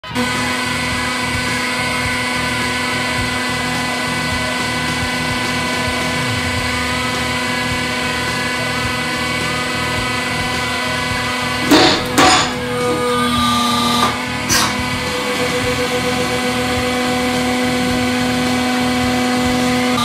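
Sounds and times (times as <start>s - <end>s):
hydraulic pump humming and whining: 0.0s - 20.0s.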